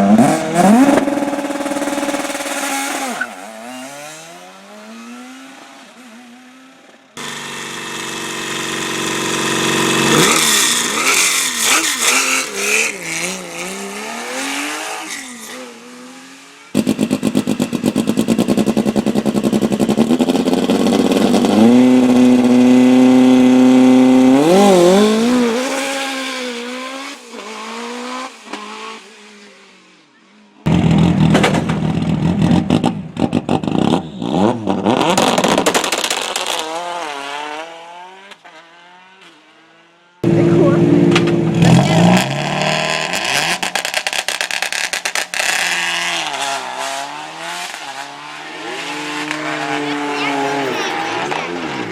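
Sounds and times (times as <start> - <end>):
rally car engines revving: 0.0 - 29.7, 30.6 - 51.9.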